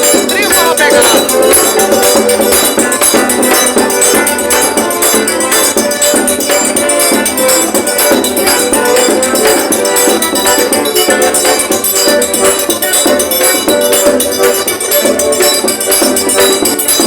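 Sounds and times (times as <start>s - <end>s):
accordion: 0.0s - 17.0s
drum beat: 0.0s - 17.0s.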